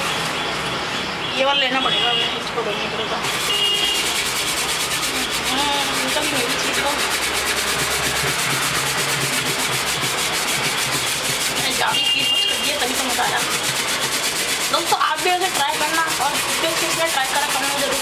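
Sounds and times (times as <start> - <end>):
dishes being scrubbed: 3.2 - 18.0.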